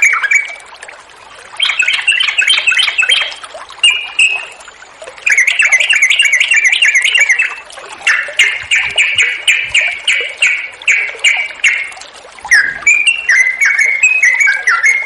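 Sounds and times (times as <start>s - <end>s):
bird singing bubbly notes: 0.0s - 15.0s.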